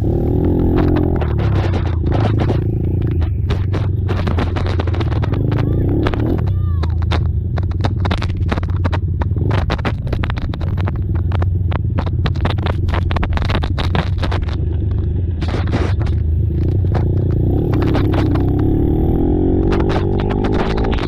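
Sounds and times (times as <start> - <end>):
engine revving: 0.0 - 11.0, 12.0 - 21.0
atv engines rumbling: 0.0 - 21.0
sharp crackling knocks: 0.0 - 21.0.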